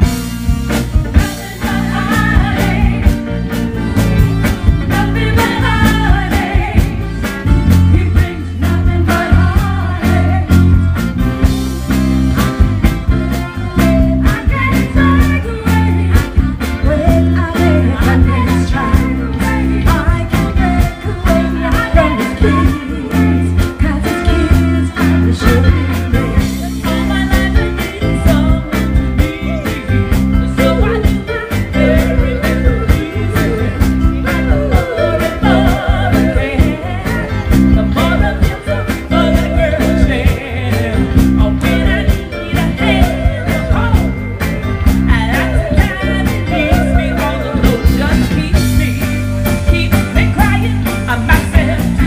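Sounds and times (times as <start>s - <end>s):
bass line: 0.0s - 52.0s
live band playing through speakers: 0.0s - 52.0s
women singing: 1.2s - 10.9s, 13.1s - 44.3s, 45.1s - 49.0s, 49.6s - 52.0s.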